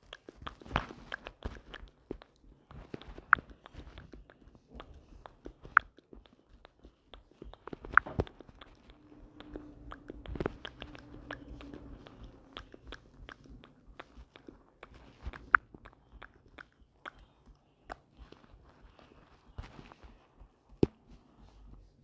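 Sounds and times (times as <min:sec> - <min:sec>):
light clicks and taps: 0:00.0 - 0:21.8
faint hum: 0:00.4 - 0:22.0.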